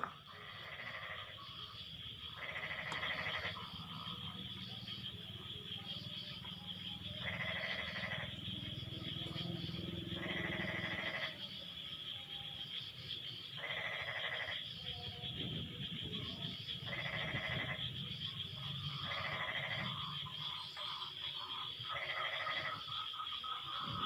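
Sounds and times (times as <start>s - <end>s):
high-pitched frog hum: 0.0s - 24.0s
low frog chorus: 0.0s - 24.0s.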